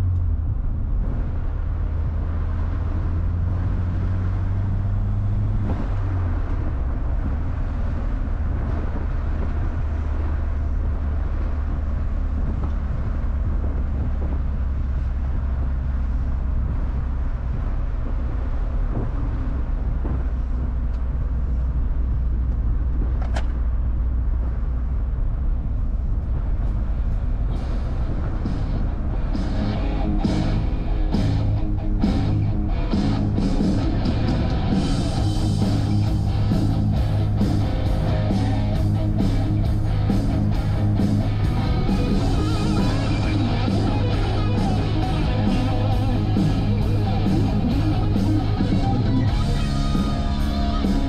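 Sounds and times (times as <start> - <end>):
car engine running: 0.0 - 51.0
road and tyre noise: 0.0 - 51.0.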